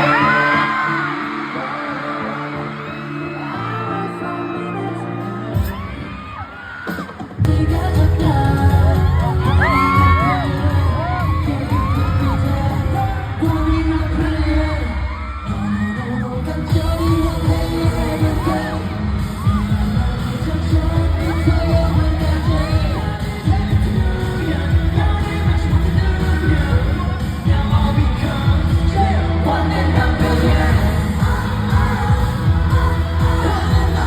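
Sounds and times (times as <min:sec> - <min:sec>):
crowd voices: 0:00.0 - 0:34.0
pop song with singing: 0:00.0 - 0:34.0.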